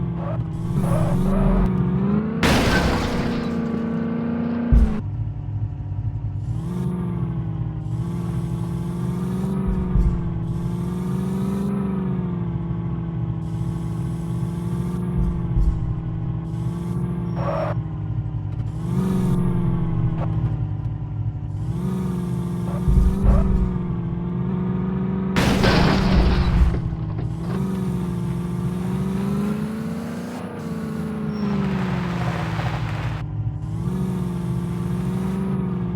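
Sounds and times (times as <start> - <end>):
vehicle engine running: 0.0 - 35.9.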